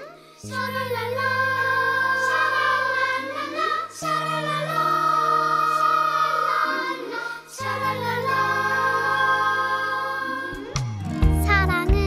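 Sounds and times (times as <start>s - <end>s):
people singing: 0.0s - 12.0s.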